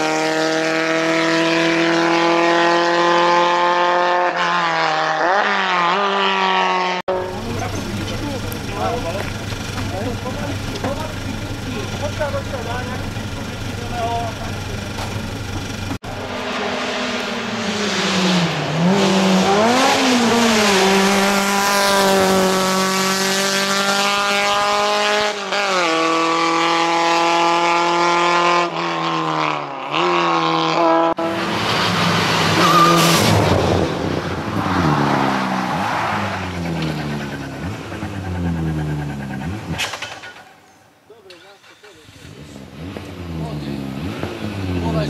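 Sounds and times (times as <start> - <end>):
race car engine revving: 0.0 - 40.2, 42.0 - 45.0.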